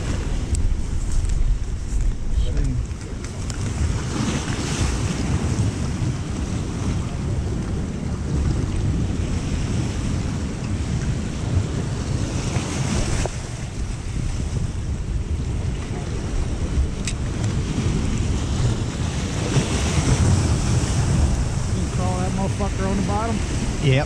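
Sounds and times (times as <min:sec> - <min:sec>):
surf breaking over rocks: 0:00.0 - 0:24.0
wind buffeting microphone: 0:00.0 - 0:24.0.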